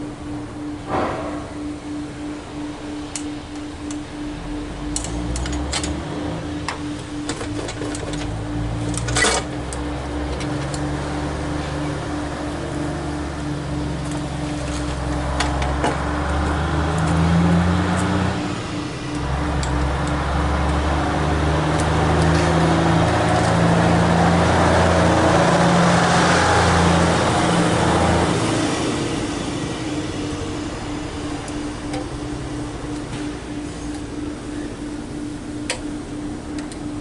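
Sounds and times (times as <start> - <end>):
car engine running: 2.5 - 37.0.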